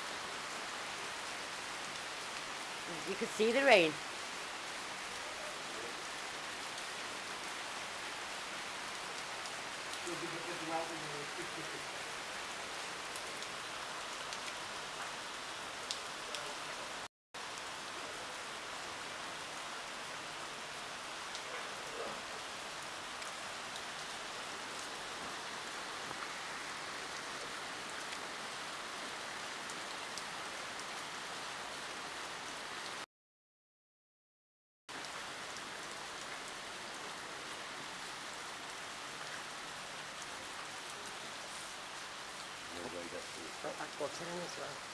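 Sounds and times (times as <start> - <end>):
steady rain falling: 0.0 - 33.1, 34.9 - 44.9.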